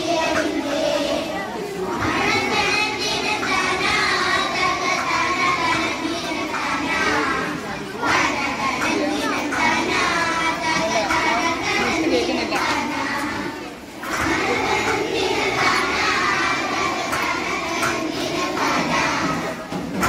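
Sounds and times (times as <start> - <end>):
children singing in chorus: 0.0 - 20.0.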